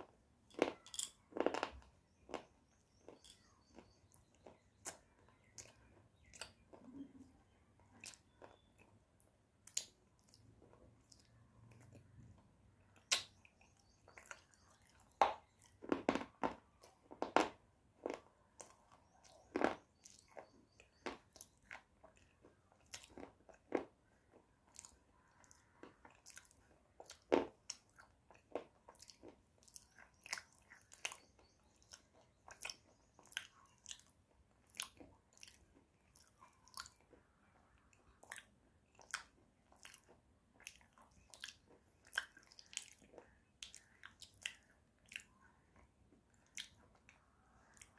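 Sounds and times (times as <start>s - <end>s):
crunching chewing of hard clay: 0.0s - 47.9s.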